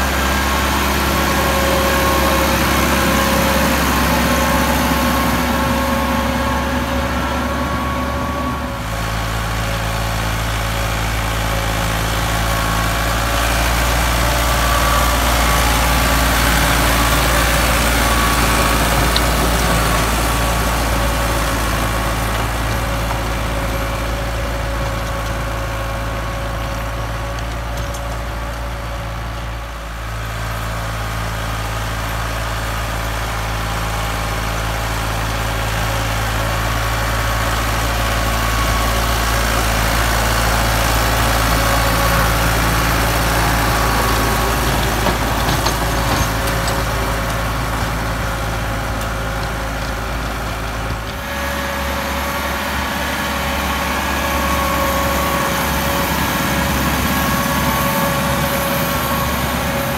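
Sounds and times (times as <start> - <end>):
diesel tractor engines under load: 0.0 - 59.9.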